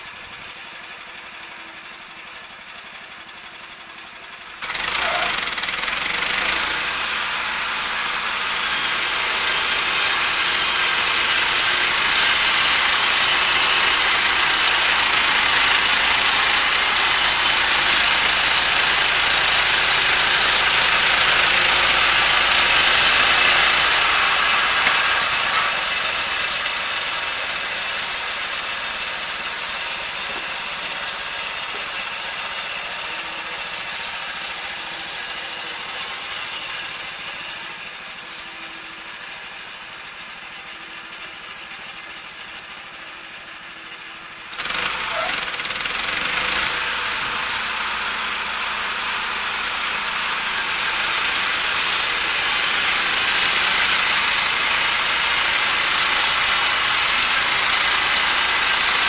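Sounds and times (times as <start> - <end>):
chainsaw engine: 0.0 - 59.0.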